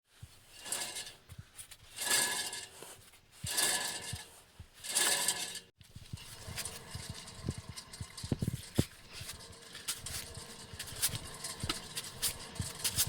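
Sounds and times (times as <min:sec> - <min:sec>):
wheel bearing grinding: 0:00.4 - 0:13.0.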